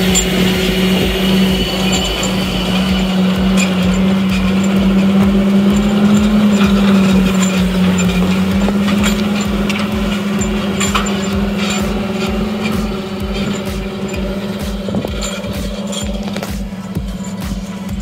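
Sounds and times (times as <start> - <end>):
sharp ticks: 0.0 - 18.0
tractor diesel engine at full throttle: 0.0 - 18.0.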